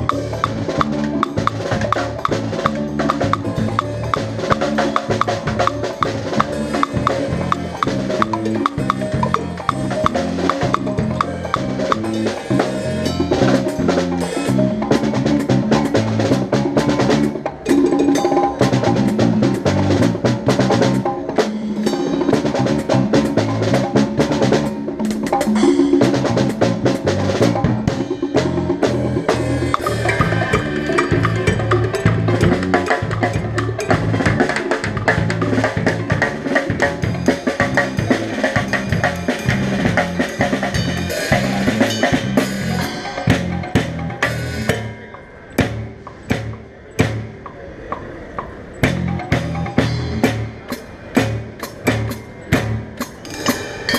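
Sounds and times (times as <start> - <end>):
bass line: 0.0 - 47.5, 48.8 - 53.2
drum kit playing busy rhythm: 0.0 - 53.9.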